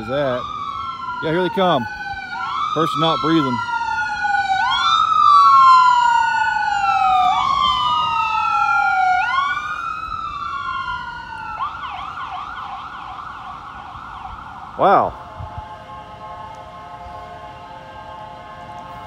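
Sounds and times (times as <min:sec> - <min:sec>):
ambulance siren: 0:00.0 - 0:19.0.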